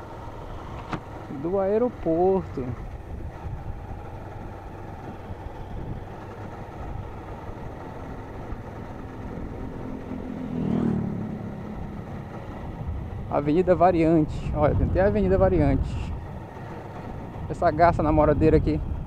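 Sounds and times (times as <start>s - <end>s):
motorcycle engine running: 0.0s - 19.0s
road noise: 0.0s - 19.0s
wind noise: 2.4s - 9.8s, 10.9s - 19.0s.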